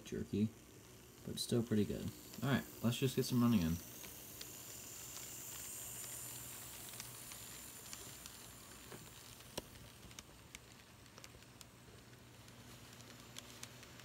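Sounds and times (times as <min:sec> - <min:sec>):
model train hum and hiss: 0:00.0 - 0:14.0.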